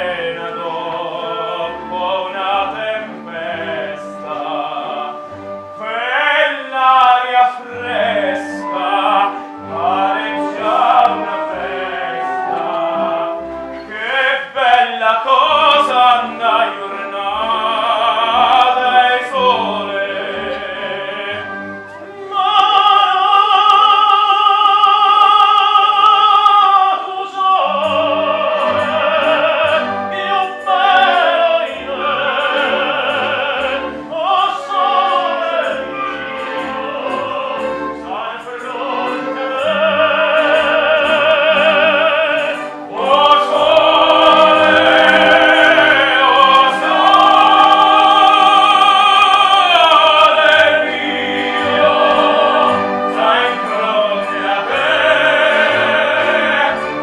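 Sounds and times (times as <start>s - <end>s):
men singing opera: 0.0s - 57.0s
orchestra playing: 0.0s - 57.0s.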